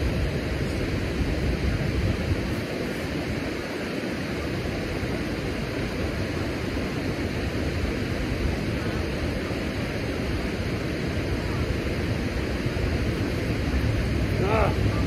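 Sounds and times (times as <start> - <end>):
churning water rushing: 0.0 - 15.0.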